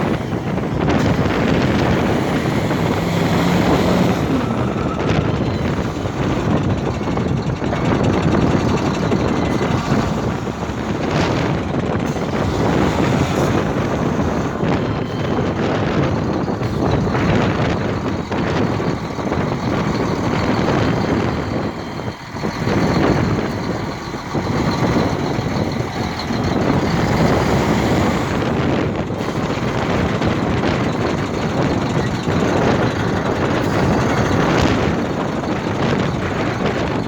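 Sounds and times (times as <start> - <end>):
truck running: 0.0 - 37.0
wind buffeting microphone: 0.0 - 37.0.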